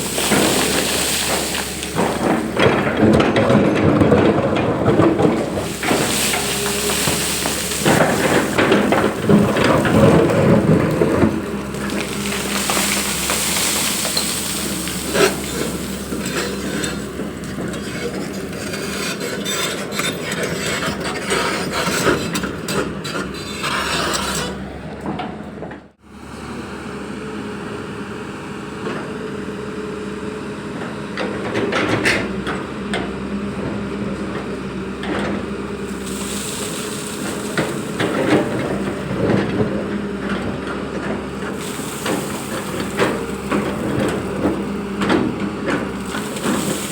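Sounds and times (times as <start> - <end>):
digging knocks and rumbling: 0.0 - 26.0, 30.8 - 46.9
excavator diesel engine humming: 0.0 - 46.9.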